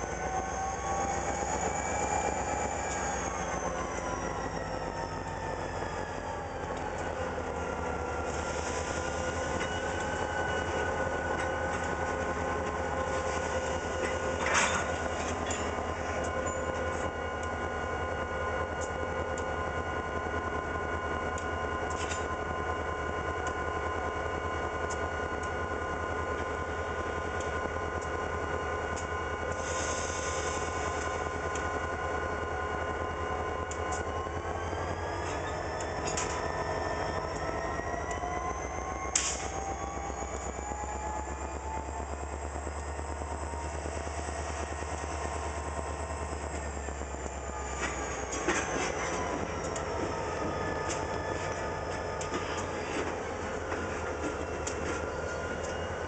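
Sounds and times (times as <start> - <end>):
diesel locomotive rumble and whine: 0.0 - 56.0.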